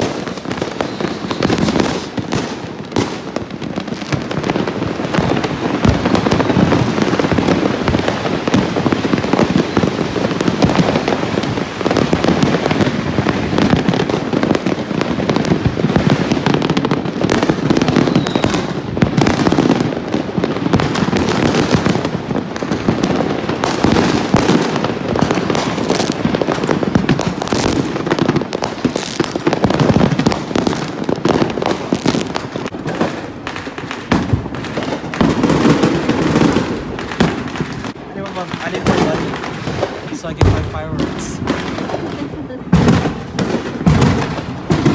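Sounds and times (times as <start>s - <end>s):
firecrackers crackling and banging: 0.0s - 44.9s.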